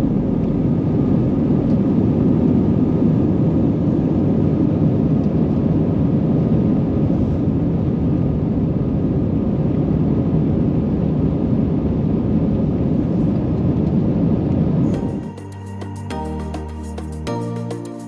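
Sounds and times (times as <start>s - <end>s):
airliner cabin engine noise: 0.0s - 18.0s.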